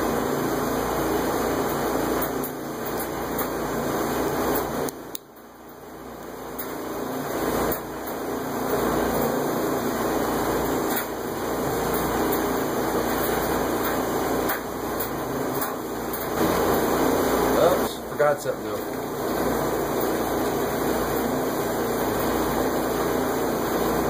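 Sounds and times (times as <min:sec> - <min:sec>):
room noise hiss: 0:00.0 - 0:24.0.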